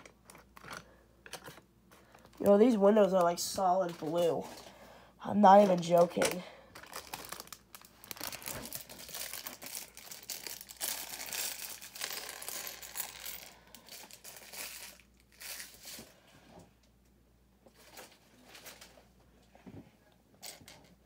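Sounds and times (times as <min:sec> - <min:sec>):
crinkly rustling: 0:00.0 - 0:04.8, 0:05.5 - 0:16.2, 0:17.7 - 0:19.2.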